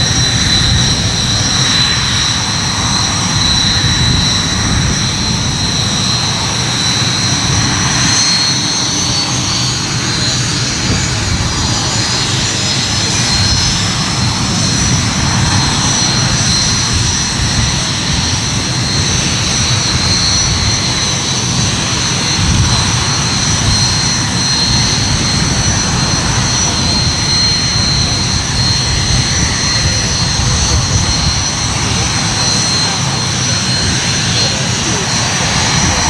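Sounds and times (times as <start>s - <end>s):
aircraft engine roar: 0.0s - 36.0s
high-pitched engine whines: 0.0s - 36.0s.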